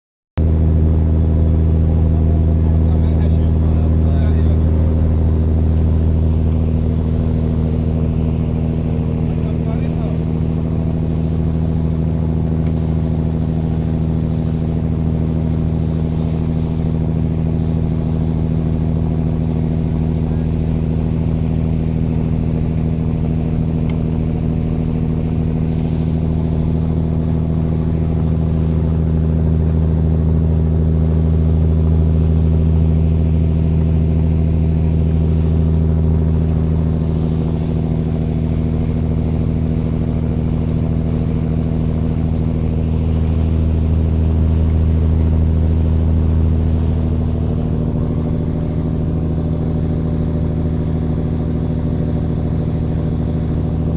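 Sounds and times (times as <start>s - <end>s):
boat engine running: 0.4s - 53.9s.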